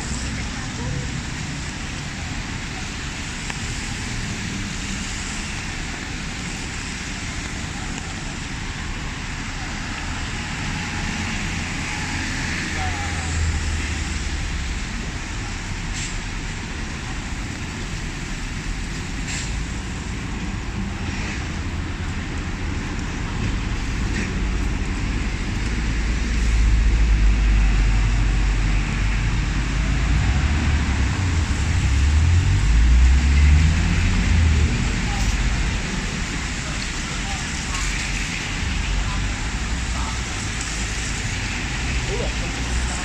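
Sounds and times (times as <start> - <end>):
deep vehicle rumble: 0.0 - 43.0
rain hissing on street: 0.0 - 43.0
road traffic rumble: 0.0 - 43.0.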